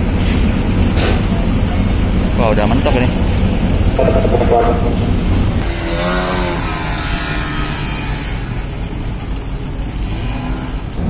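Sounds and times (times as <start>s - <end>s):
ship engine rumbling: 0.0s - 11.0s.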